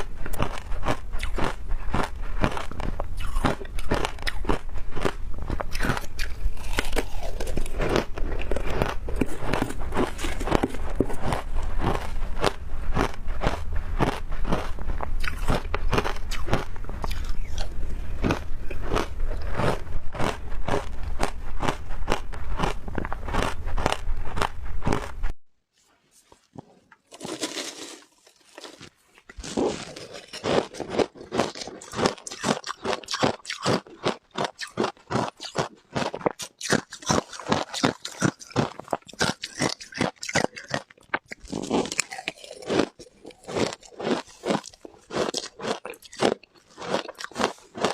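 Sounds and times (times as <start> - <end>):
crunching and chewing ice: 0.0 - 25.3, 26.4 - 47.9.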